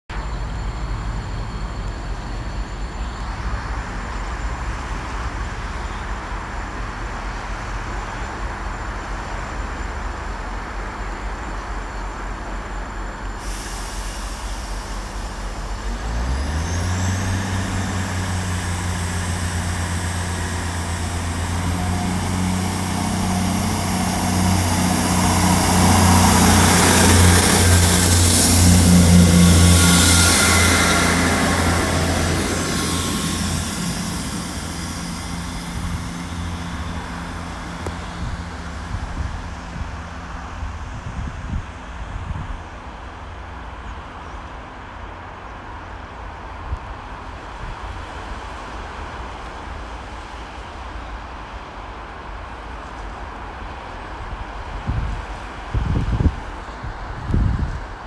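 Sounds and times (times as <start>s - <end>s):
train diesel engines: 0.1s - 58.0s.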